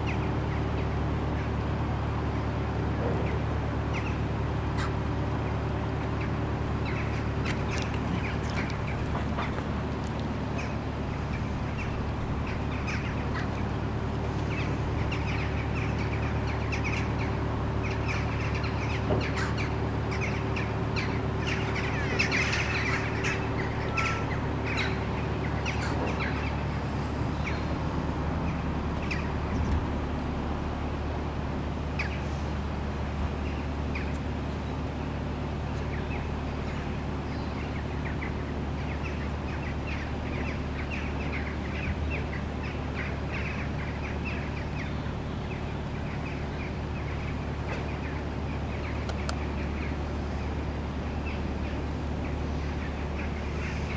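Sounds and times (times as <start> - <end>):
birds chirping: 0.0 - 53.9
diesel engine running: 0.0 - 53.9.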